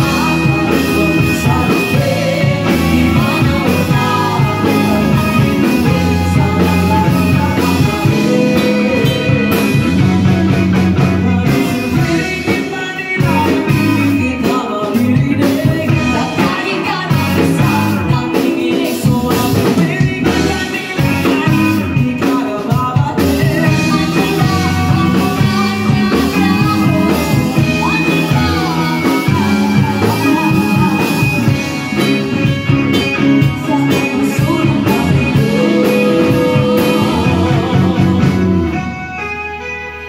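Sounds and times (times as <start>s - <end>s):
man and woman singing: 0.0s - 39.0s
live rock band playing: 0.0s - 40.0s.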